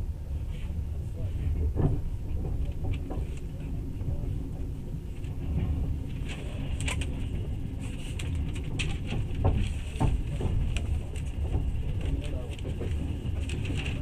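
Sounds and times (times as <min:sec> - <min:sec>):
train carriage rumbling: 0:00.0 - 0:14.0.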